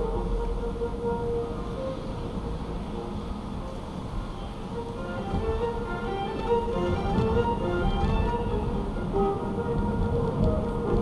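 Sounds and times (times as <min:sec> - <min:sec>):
car driving on wet road: 0:00.0 - 0:11.0
orchestral music on car radio: 0:00.0 - 0:11.0.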